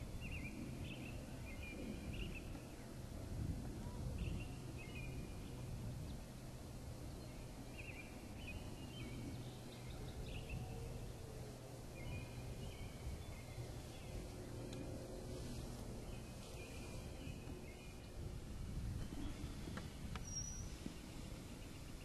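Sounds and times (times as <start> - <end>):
distant songbirds singing: 0.0 - 22.0
low steady hum: 0.0 - 22.0.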